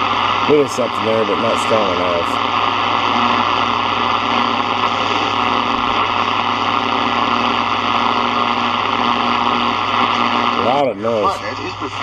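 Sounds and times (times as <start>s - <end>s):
constant buzzing hum: 0.0s - 12.0s
radio static hiss: 0.0s - 12.0s.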